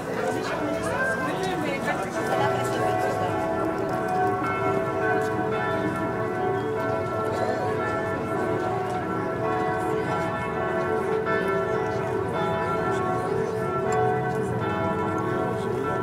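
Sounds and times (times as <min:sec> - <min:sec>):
church bells pealing: 0:00.0 - 0:16.0.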